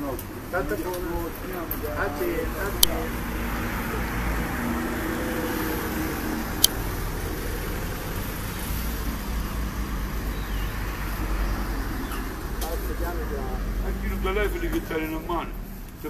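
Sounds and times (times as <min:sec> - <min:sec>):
vehicle passing by: 0:01.2 - 0:15.8.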